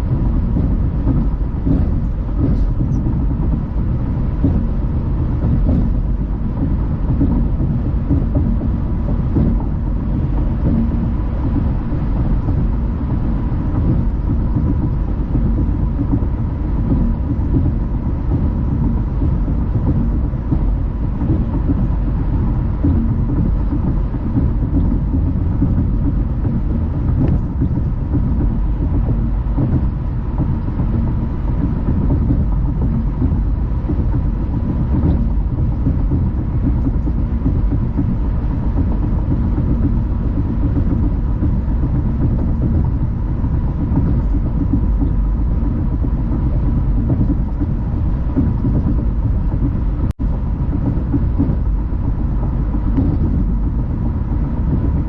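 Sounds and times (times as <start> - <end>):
car tyres and engine rumble: 0.0 - 55.0
faint steady whine: 0.0 - 55.0.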